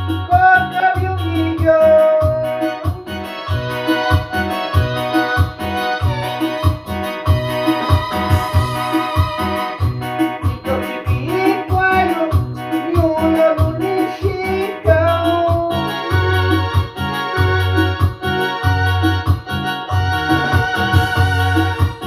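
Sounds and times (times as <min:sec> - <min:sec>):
keyboard melody over bass beat: 0:00.0 - 0:22.0.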